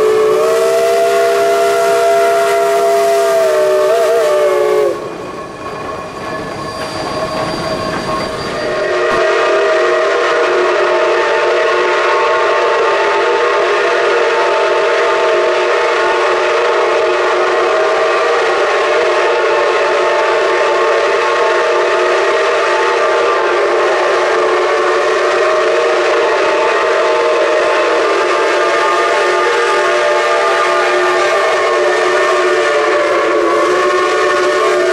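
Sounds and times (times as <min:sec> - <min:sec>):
steam whistles chord: 0:00.0 - 0:34.9.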